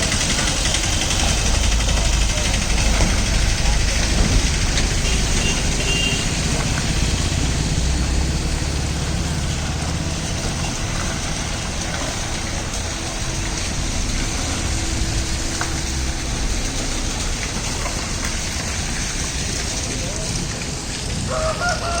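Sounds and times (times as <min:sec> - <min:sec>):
steady hiss: 0:00.0 - 0:21.6
lorry diesel engine running: 0:00.0 - 0:22.0.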